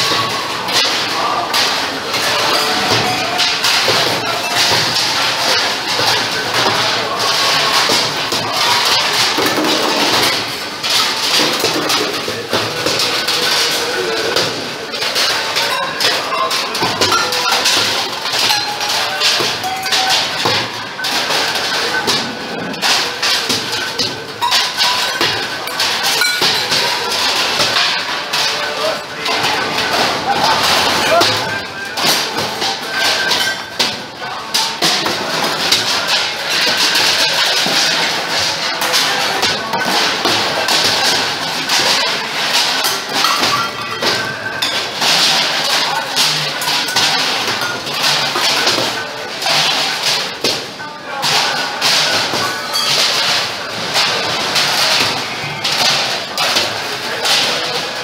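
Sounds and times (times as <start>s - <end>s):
metal plates clattering: 0.0s - 58.0s.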